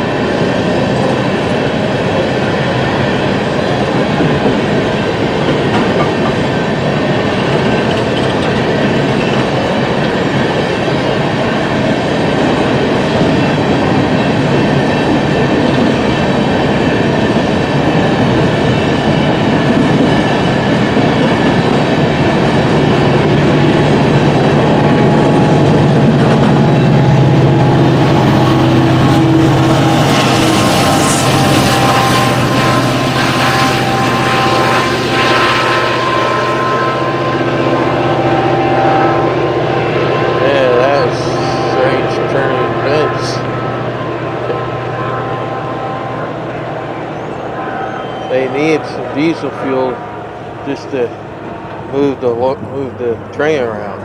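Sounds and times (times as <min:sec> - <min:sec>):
diesel engine drone: 0:00.0 - 0:54.0
train wheels rumbling on rails: 0:00.0 - 0:54.0.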